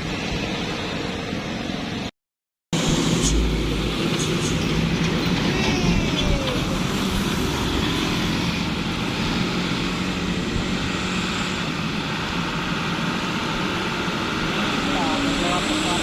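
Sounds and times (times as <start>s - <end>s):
road noise: 0.0s - 2.1s, 2.8s - 16.0s
truck engine running: 2.8s - 16.0s.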